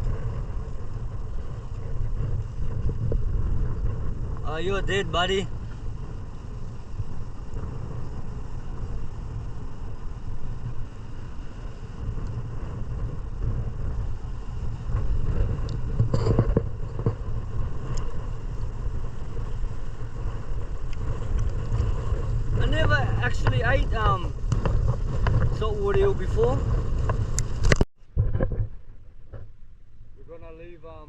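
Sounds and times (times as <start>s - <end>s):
wind gusts or knocks: 0.0s - 29.7s
wind buffeting microphone: 0.0s - 31.0s.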